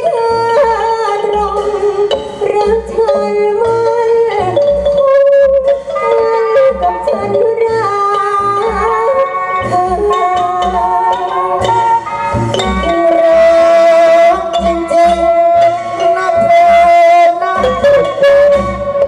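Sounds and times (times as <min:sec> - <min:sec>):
melodic instrumental music: 0:00.0 - 0:19.0.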